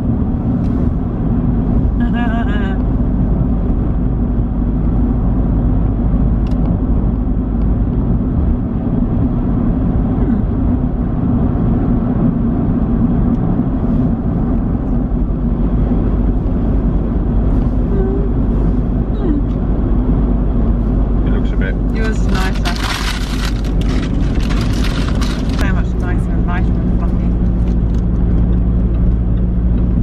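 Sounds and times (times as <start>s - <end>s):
road and engine rumble in car: 0.0s - 30.0s.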